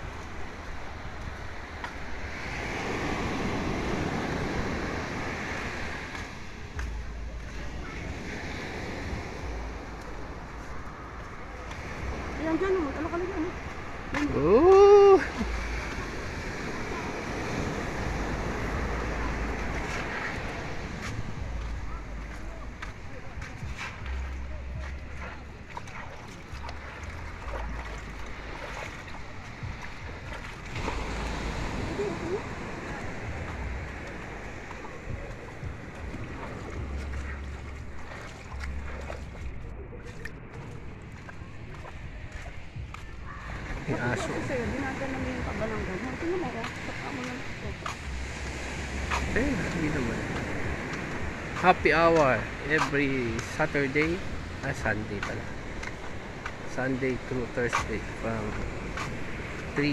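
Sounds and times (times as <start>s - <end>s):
ocean surf breaking on beach: 0.0s - 59.9s
wind rumbling on microphone: 0.0s - 59.9s.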